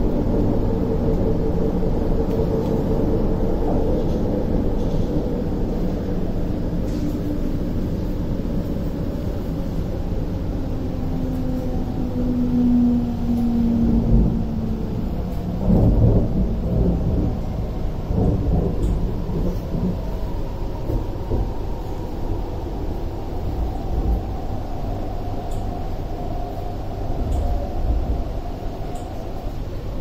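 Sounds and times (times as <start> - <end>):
low uneven rumbling: 0.0 - 30.0.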